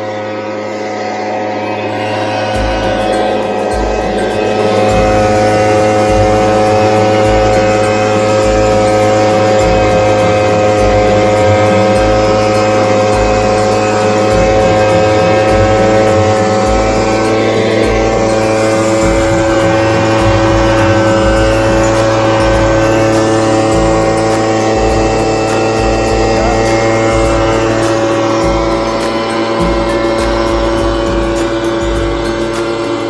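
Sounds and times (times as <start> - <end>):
two-stroke blower engine running: 0.0 - 33.0.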